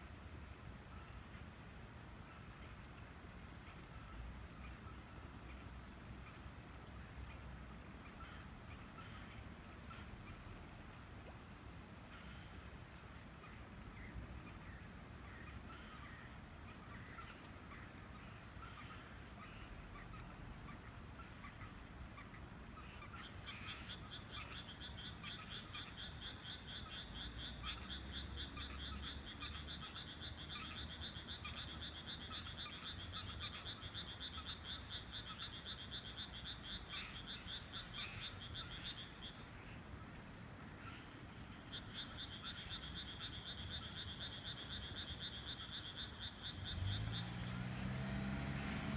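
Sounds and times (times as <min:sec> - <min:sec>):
chorus of frogs calling: 0:00.0 - 0:48.9
rapid pulsing frog call: 0:00.0 - 0:48.9.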